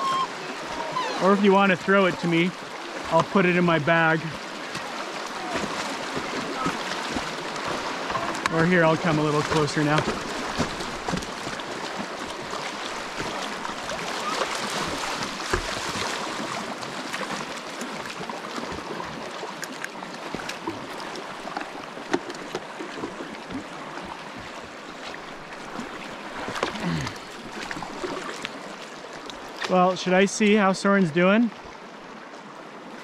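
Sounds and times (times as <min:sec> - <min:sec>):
paddle splashes: 0:00.0 - 0:33.0
water rushing around boat: 0:00.0 - 0:33.0.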